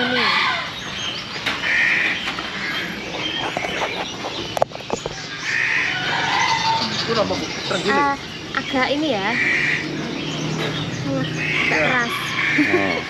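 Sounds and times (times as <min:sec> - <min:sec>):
caged birds chirping and calling: 0:00.0 - 0:13.0.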